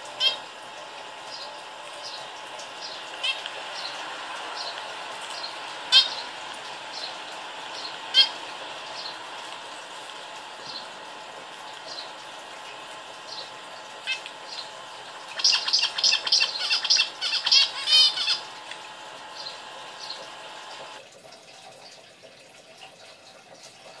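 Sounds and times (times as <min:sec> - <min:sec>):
zebra finch calling: 0:00.0 - 0:21.0.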